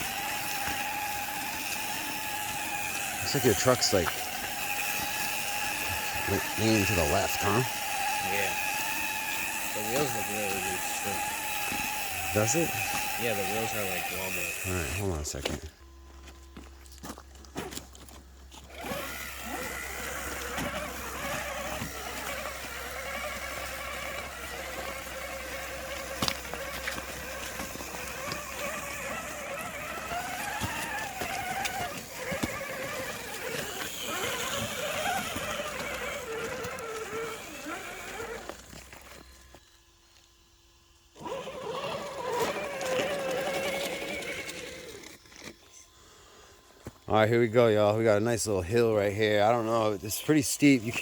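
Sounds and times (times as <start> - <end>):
electric motor and gears whining: 0.0 - 51.0.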